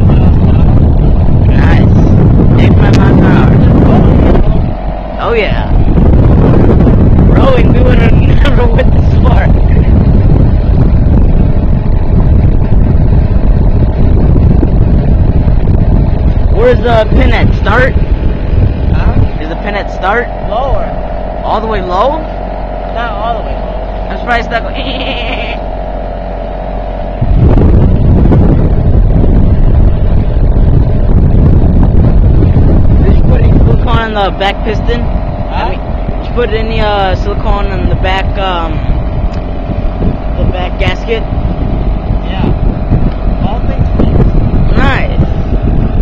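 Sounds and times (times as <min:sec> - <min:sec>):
outboard motor running: 0:00.0 - 0:46.0
wind buffeting on microphone: 0:00.0 - 0:46.0.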